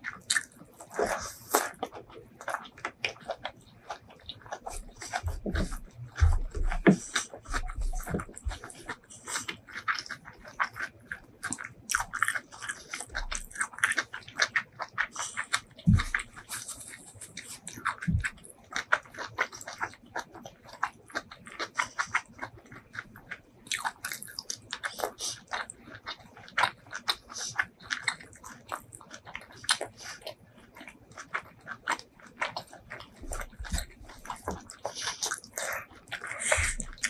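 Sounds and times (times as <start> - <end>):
wet chewing and lip smacks: 0.0 - 37.0.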